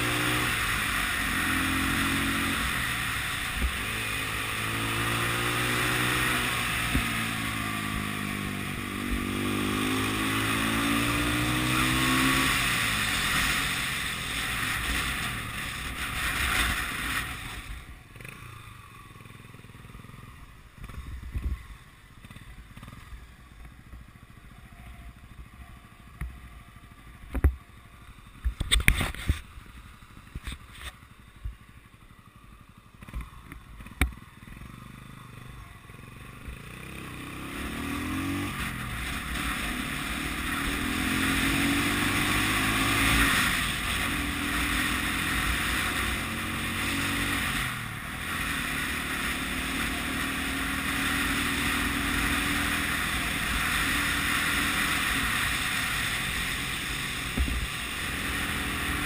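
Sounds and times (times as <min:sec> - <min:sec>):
wind and road rush: 0:00.0 - 0:24.4, 0:26.1 - 0:59.0
motorcycle engine running: 0:00.0 - 0:59.0.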